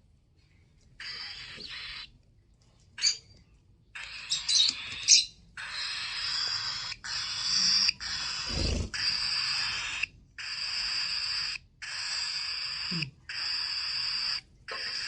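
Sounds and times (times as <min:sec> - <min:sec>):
parrots screeching: 0:01.0 - 0:02.1, 0:04.0 - 0:15.0.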